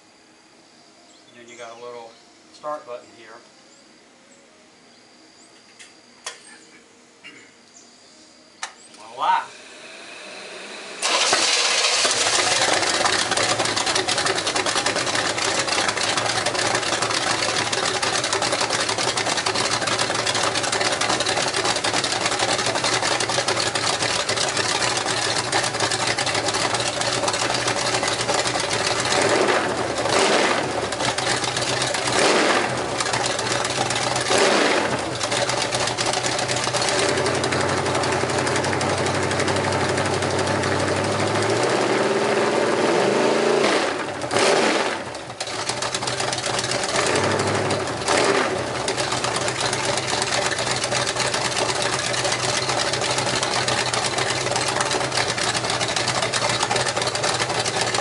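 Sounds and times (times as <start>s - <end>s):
engine starter: 9.5s - 42.0s, 43.6s - 58.0s
car engine idling and revving: 9.5s - 58.0s.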